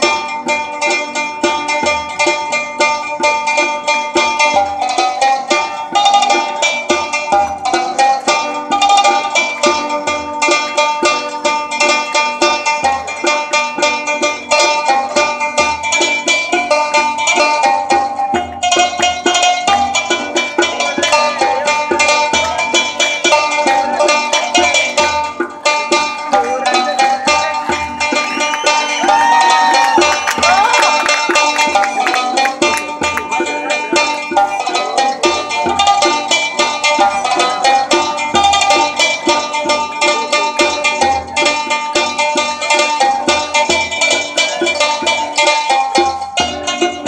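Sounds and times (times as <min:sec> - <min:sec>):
plucked lute notes: 0:00.0 - 0:47.0
tabla strokes: 0:00.0 - 0:47.0.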